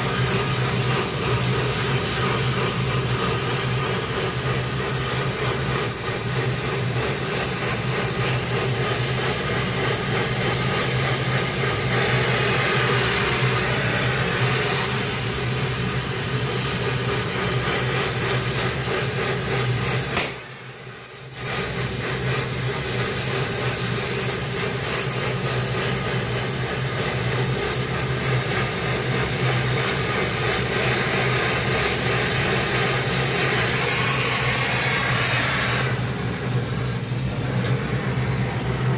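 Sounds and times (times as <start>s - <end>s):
gas torch flame hissing: 0.0s - 37.7s.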